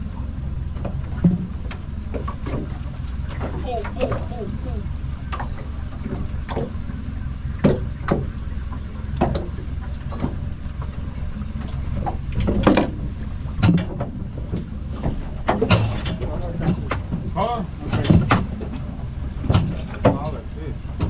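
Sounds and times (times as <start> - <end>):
boat engine rumble: 0.0 - 21.0
water slapping hull: 0.0 - 21.0.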